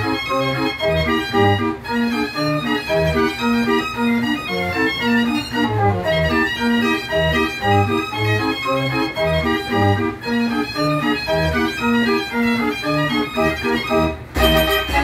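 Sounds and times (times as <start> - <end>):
mechanical band organ playing: 0.0 - 15.0.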